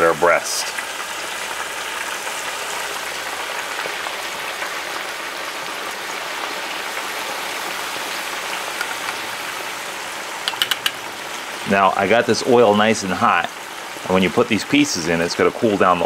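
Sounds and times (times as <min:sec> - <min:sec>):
meat sizzling in hot oil: 0:00.1 - 0:15.0.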